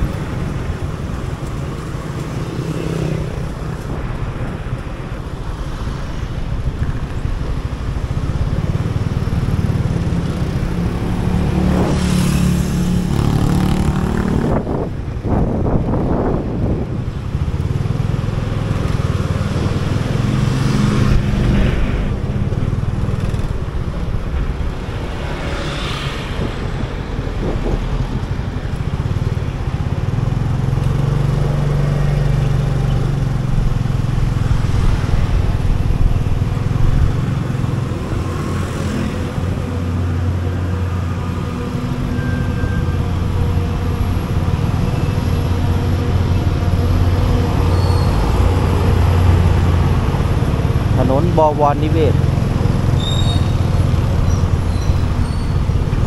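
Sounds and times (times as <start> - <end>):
passing vehicles hissing: 0.0 - 56.0
road and traffic noise: 0.0 - 56.0.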